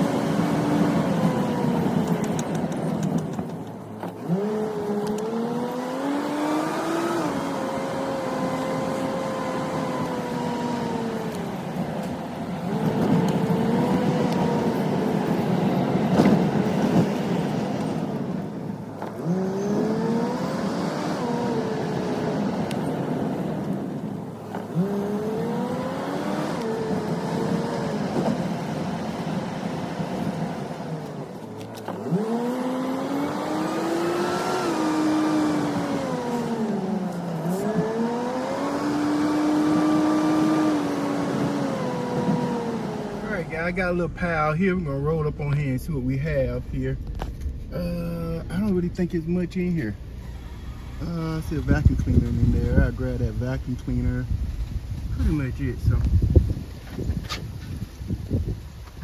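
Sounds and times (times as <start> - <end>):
truck engine accelerating: 0.0 - 59.0.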